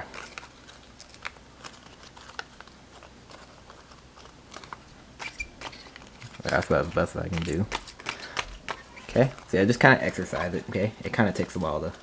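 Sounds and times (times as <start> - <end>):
paper crinkling: 0.0 - 12.0.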